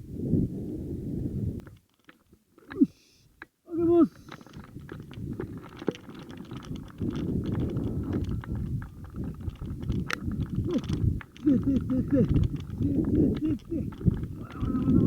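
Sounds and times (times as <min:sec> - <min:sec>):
wind buffeting microphone: 0:00.0 - 0:01.8, 0:03.7 - 0:15.0.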